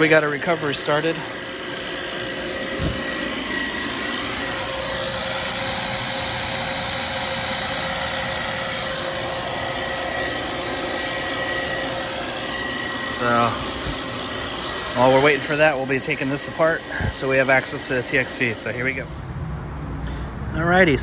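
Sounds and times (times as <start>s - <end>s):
recovery machine humming and whining: 0.0s - 21.0s.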